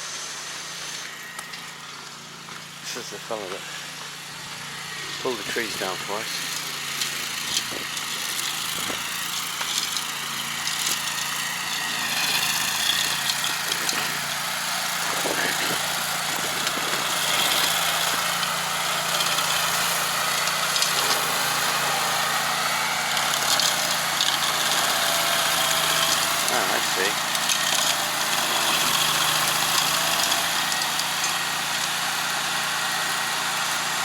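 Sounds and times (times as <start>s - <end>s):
stump grinder engine running: 0.0s - 34.0s.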